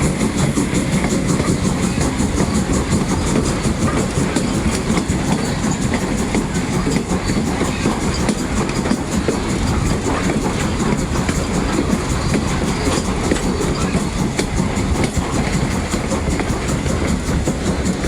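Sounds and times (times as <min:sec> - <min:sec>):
train rumble: 0:00.0 - 0:18.0
wheels clicking on rails: 0:00.0 - 0:18.0.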